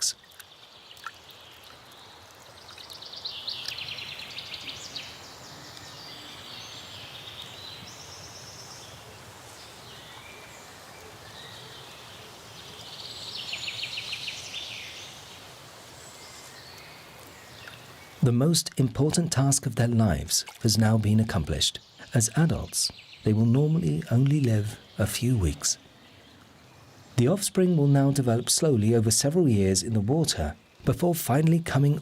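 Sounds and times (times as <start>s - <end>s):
soft steady hiss: 0.0s - 32.0s.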